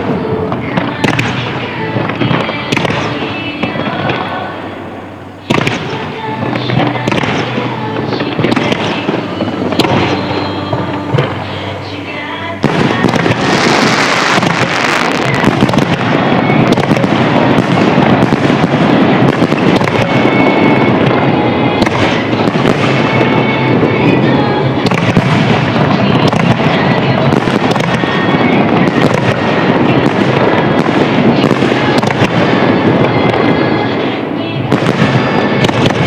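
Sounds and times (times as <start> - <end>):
fireworks bursting: 0.0 - 36.0
music playing: 0.0 - 36.0.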